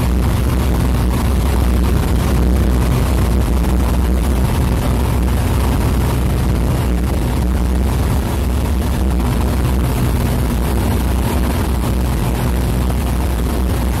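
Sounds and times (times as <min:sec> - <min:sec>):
air rushing over microphone: 0:00.0 - 0:14.0
aircraft engine droning: 0:00.0 - 0:14.0.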